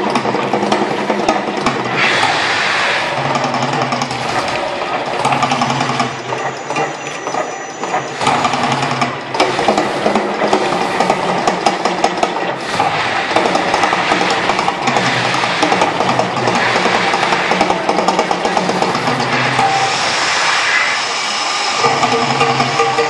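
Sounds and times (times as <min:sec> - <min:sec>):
rapid clattering: 0:00.0 - 0:20.3
volcano show rumble: 0:00.0 - 0:23.0.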